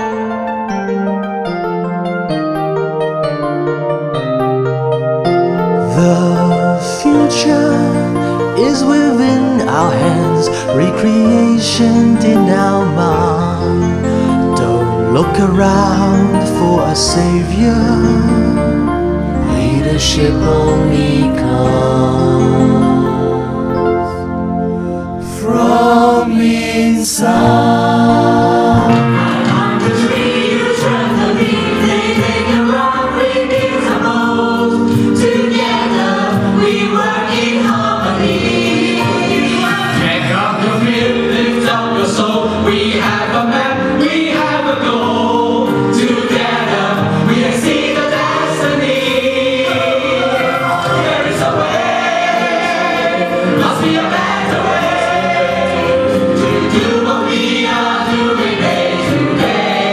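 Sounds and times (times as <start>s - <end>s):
choir singing with backing music: 0.0s - 0.3s, 5.2s - 59.9s.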